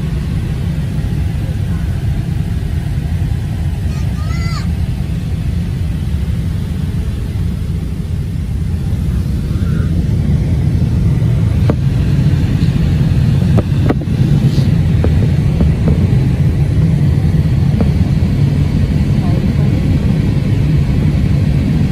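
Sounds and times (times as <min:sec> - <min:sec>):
airliner engines rumbling in cabin: 0:00.0 - 0:21.9.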